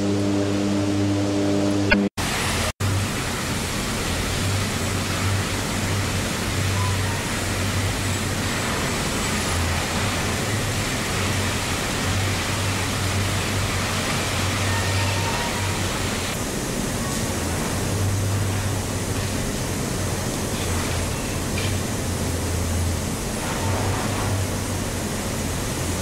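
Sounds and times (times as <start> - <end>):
furnace roaring with low hum: 0.0 - 26.0.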